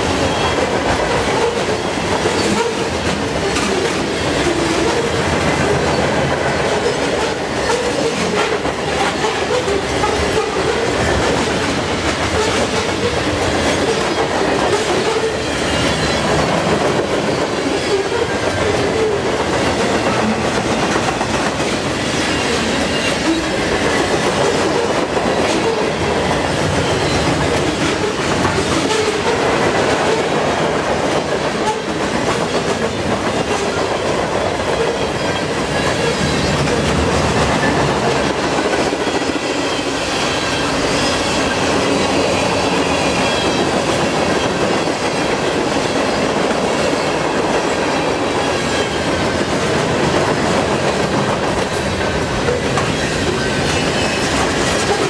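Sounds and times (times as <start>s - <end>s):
clickety-clack over rail joints: 0.0s - 55.0s
freight train wheels rumbling: 0.0s - 55.0s.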